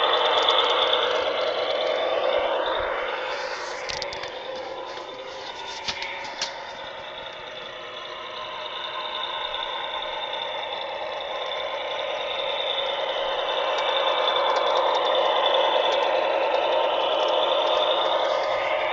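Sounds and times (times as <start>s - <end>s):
model locomotive diesel engine sound: 0.0s - 18.9s.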